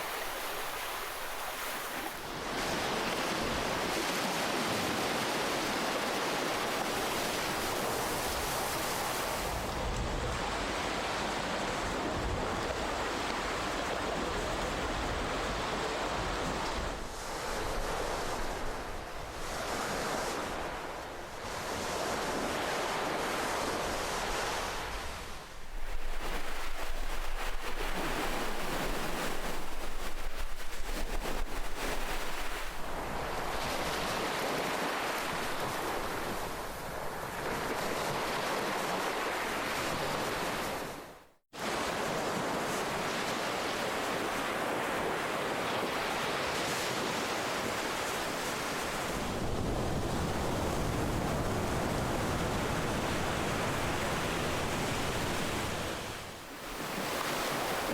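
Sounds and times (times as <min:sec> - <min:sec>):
ocean surf washing onto shore: 0:00.0 - 0:57.9.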